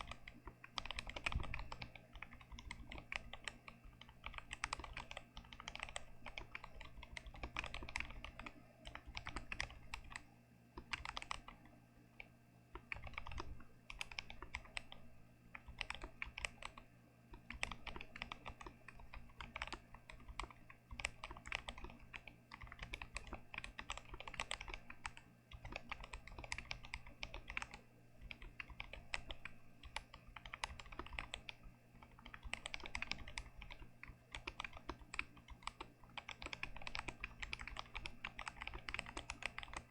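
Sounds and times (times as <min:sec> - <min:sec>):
faint low hum: 0:00.0 - 0:39.9
typing on mechanical keyboard: 0:00.0 - 0:39.9.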